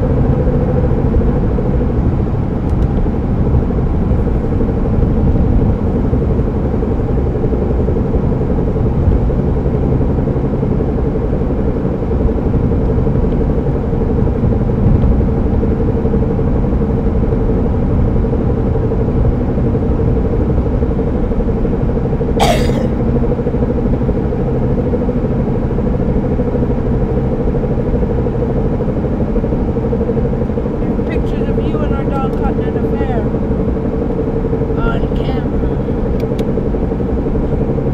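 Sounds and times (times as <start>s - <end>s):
droning hum: 0.0s - 37.9s
road rumble: 0.0s - 37.9s.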